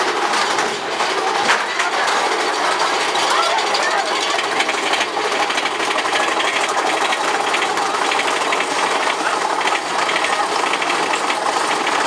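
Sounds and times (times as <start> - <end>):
roller coaster rattling on track: 0.0 - 12.0.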